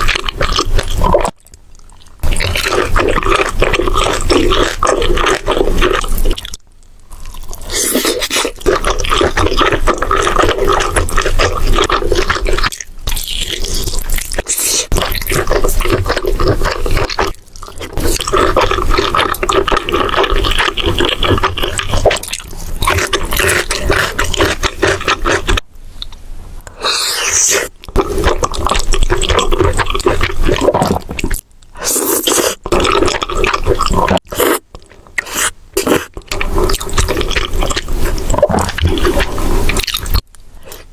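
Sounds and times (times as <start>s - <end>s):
person chewing food loudly: 0.0s - 40.9s.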